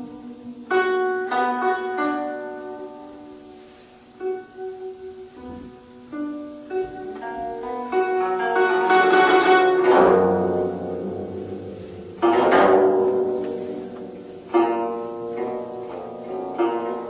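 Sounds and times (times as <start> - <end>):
instrumental music with plucked strings: 0.0 - 17.0.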